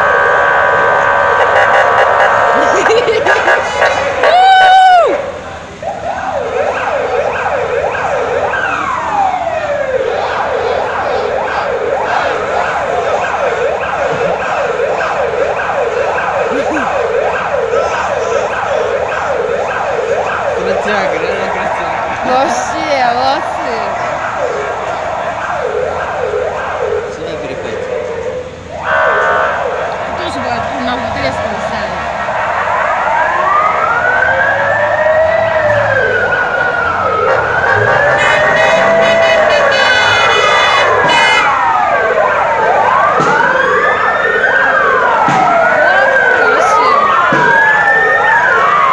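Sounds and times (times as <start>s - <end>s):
police siren wailing: 0.0s - 48.9s
street traffic noise: 0.0s - 48.9s.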